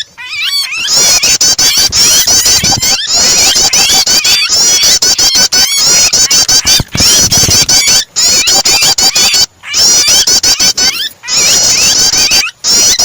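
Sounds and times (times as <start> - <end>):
bird distress calls: 0.0 - 13.0
bird song: 0.0 - 13.0.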